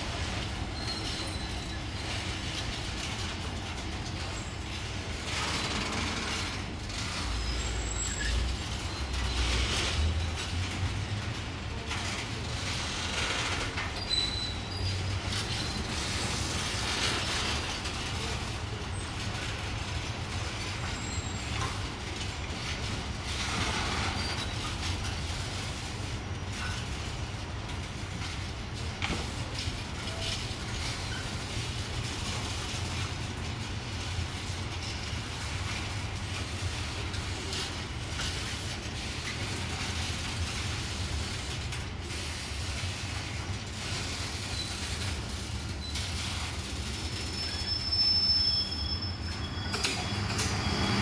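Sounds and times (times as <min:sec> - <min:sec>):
freight train wheels rumbling on track: 0:00.0 - 0:51.0.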